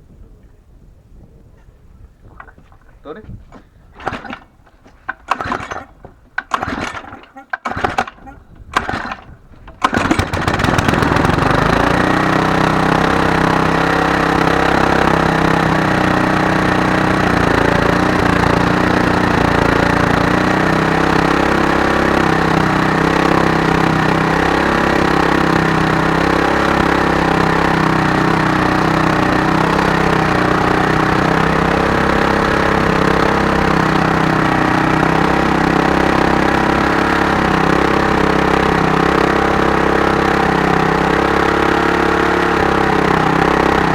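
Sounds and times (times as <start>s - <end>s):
lawnmower engine running: 2.4s - 43.9s.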